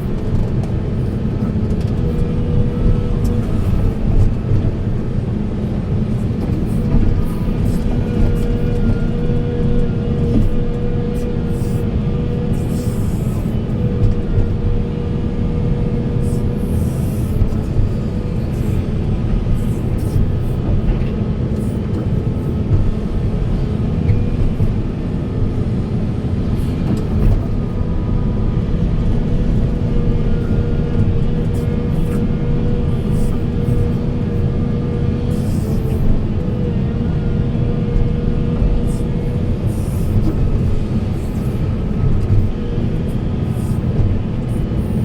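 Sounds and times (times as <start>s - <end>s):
diesel engine rumbling with whine: 0.0s - 45.0s.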